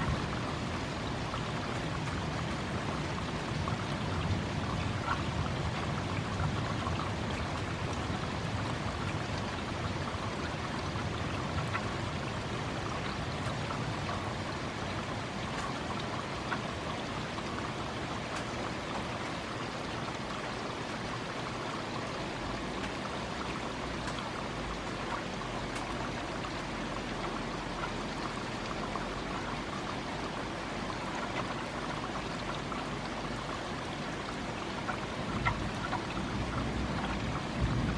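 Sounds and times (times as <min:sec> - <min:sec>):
raindrops striking microphone: 0:00.0 - 0:37.9
steady rain: 0:00.0 - 0:37.9.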